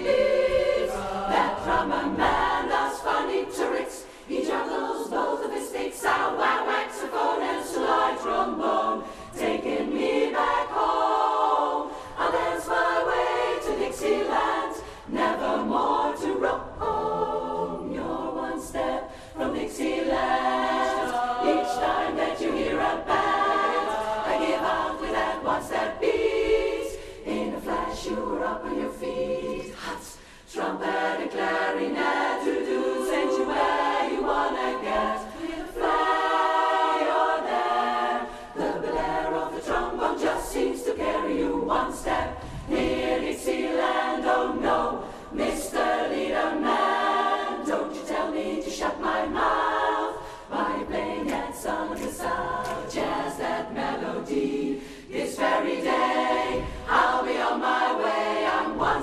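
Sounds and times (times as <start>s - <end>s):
women's chorus singing a cappella: 0.0s - 59.0s.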